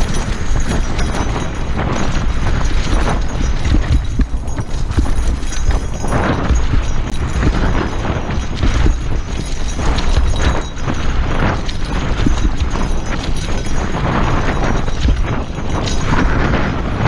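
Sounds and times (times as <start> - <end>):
bike clattering over bumps: 0.0 - 17.0
wind buffeting microphone: 0.0 - 17.0.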